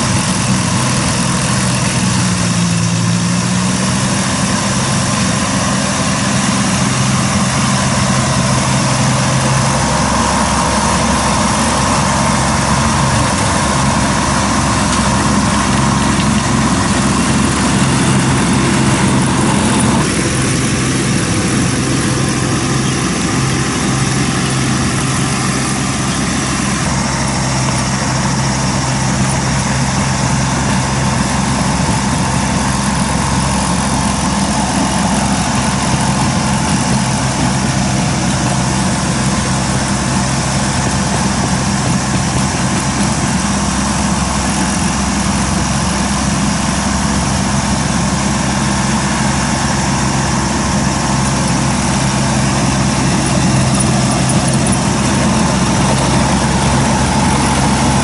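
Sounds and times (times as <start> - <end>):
mower engine running: 0.0 - 58.0
rushing noise of cutting weeds: 0.0 - 58.0.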